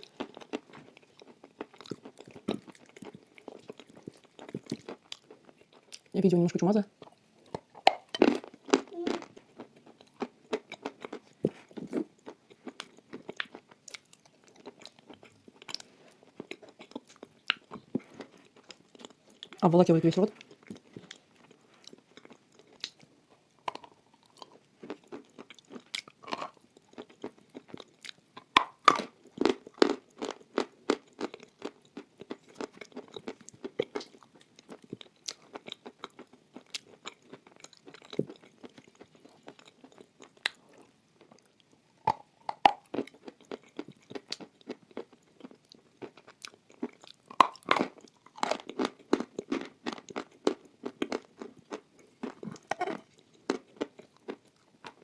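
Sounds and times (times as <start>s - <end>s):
wet crunchy chewing: 0.0s - 6.1s, 7.0s - 19.6s, 20.3s - 55.0s.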